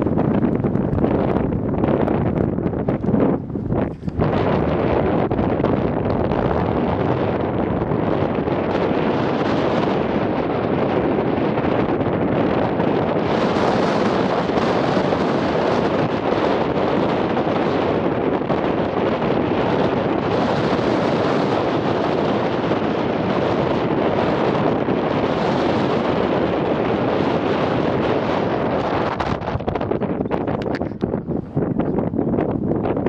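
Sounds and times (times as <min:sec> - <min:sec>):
wind rushing across microphone: 0:00.0 - 0:33.0.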